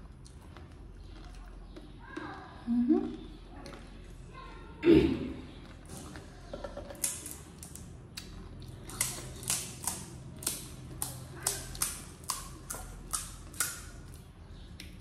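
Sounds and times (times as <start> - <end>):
crunchy chewing: 0.0 - 4.6, 5.5 - 15.0.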